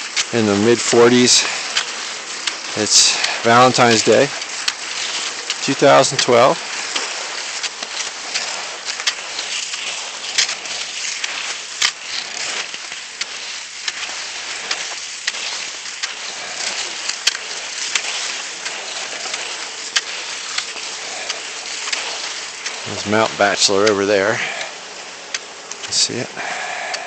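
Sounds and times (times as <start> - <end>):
sharp ski clicks: 0.0 - 27.0
skis scraping over snow: 0.0 - 27.0.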